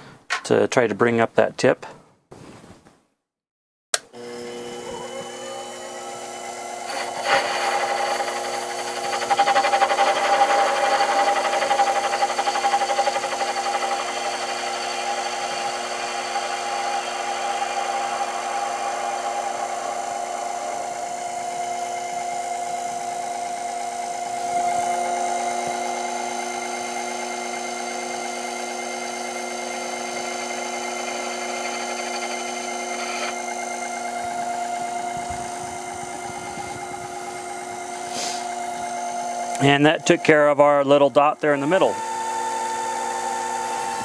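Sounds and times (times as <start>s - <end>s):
lathe motor whine: 4.0s - 44.0s
lathe tool cutting metal: 4.2s - 44.0s.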